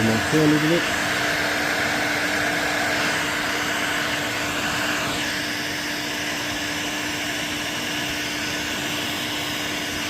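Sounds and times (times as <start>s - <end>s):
heat gun blowing: 0.0s - 10.0s.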